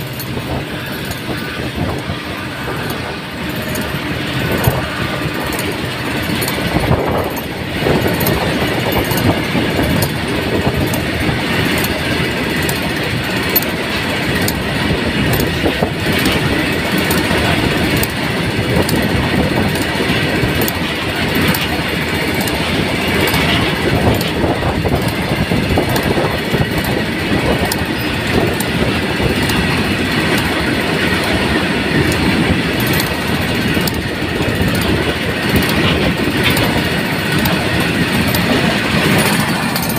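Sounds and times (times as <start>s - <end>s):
train wheels rumbling on rails: 0.0s - 39.9s
wheels clacking over rail joints: 0.0s - 39.9s.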